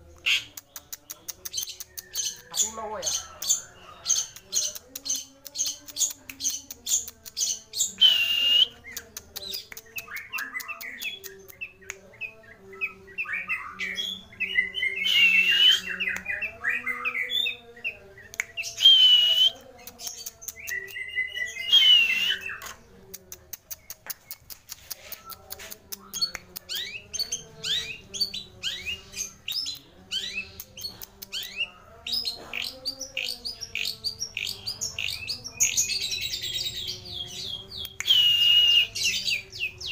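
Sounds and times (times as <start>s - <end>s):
shrike singing chattering song: 0.1s - 39.9s.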